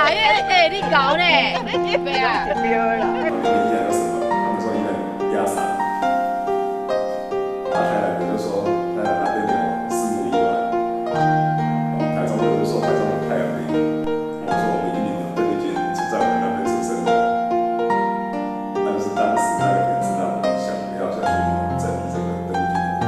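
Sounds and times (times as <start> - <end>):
slow piano notes: 0.0 - 23.0.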